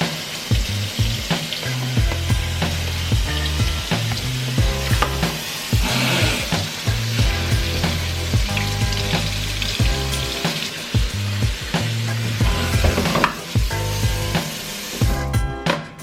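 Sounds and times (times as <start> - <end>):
running water splashing: 0.0 - 15.9
music with bass and beat: 0.0 - 16.0.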